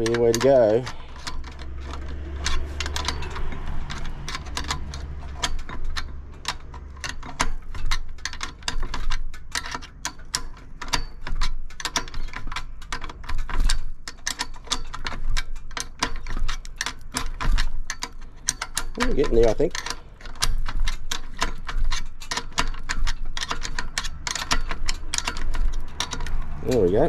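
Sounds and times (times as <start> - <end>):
ratchet wrench clicking: 0.0 - 27.0.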